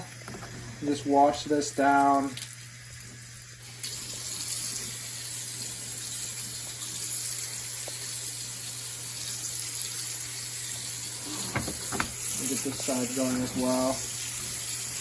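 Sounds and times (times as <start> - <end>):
faucet running into sink: 0.8 - 15.0.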